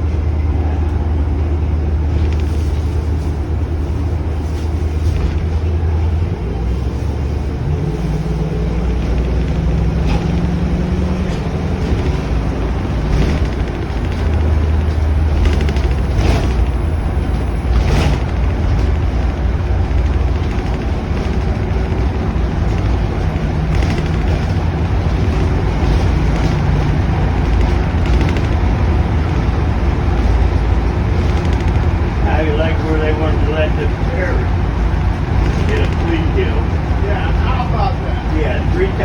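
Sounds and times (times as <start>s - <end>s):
road noise: 0.0s - 39.0s
vehicle engine drone: 0.0s - 39.0s.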